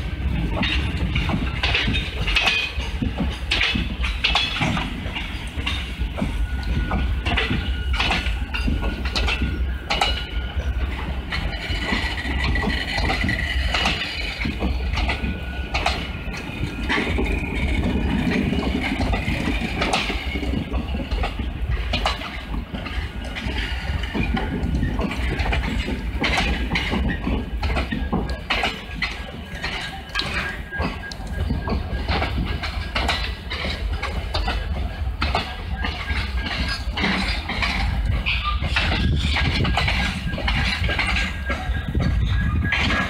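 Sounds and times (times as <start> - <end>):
low train rumble: 0.0 - 43.0
train wheels clacking over rail joints: 0.0 - 43.0.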